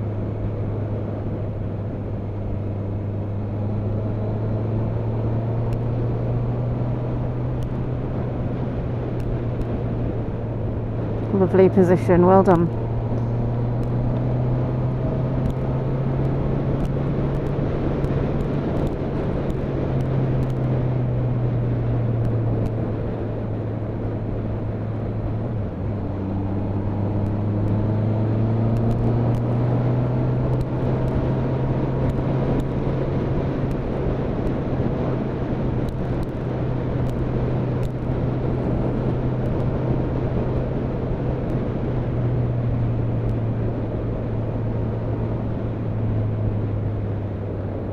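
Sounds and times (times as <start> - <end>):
motorcycle engine: 0.0 - 47.9
road noise: 0.0 - 47.9
rushing wind: 0.0 - 47.9.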